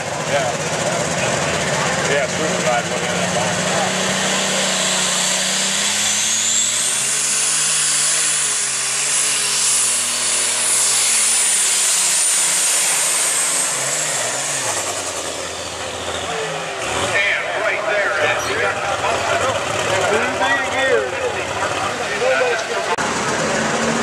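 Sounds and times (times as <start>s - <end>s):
high engine whine: 0.0s - 24.0s
tractor engine running under load: 0.0s - 24.0s.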